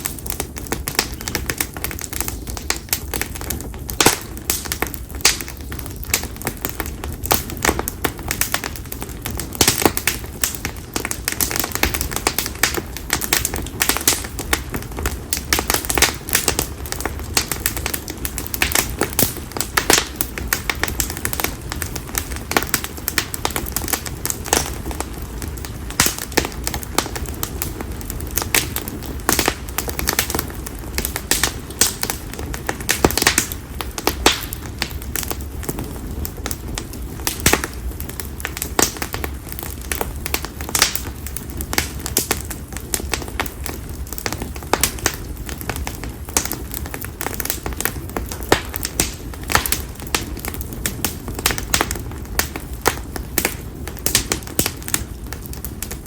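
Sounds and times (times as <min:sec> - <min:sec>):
firewood crackling and popping: 0:00.0 - 0:56.0
low rumble of fire: 0:00.0 - 0:56.0.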